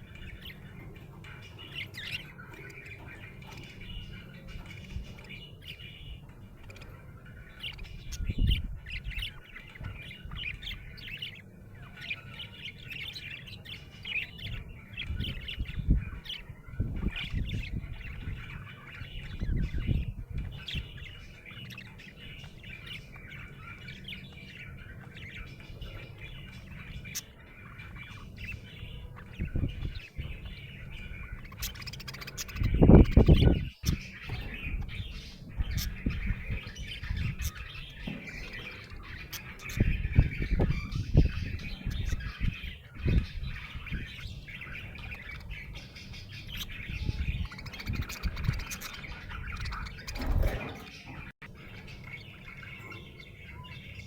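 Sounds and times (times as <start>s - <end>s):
budgerigar chirping and squawking: 0.0s - 54.0s.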